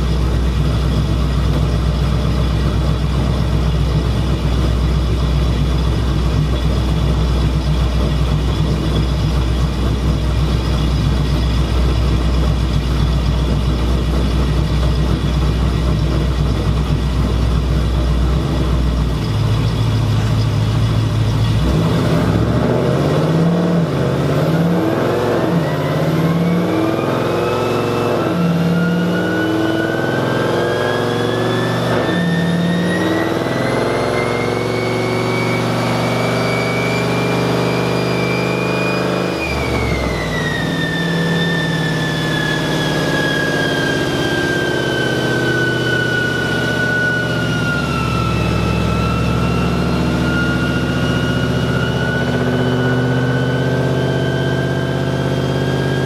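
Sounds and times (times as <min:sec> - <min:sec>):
car engine idling and revving: 0:00.0 - 0:56.0
whine climbing in pitch: 0:00.0 - 0:56.0.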